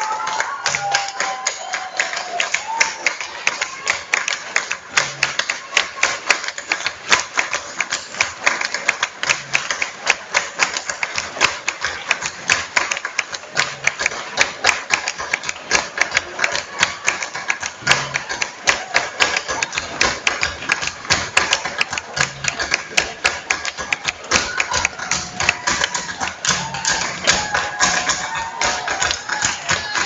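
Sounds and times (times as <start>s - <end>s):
people clapping: 0.0s - 30.0s.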